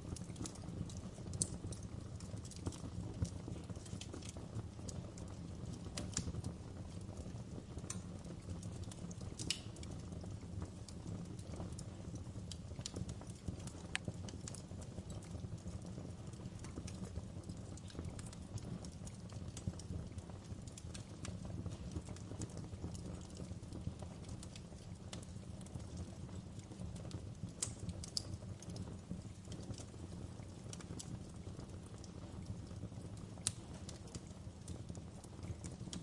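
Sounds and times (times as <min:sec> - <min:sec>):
low rumble of flames: 0:00.0 - 0:36.0
wood fire crackling: 0:00.0 - 0:36.0.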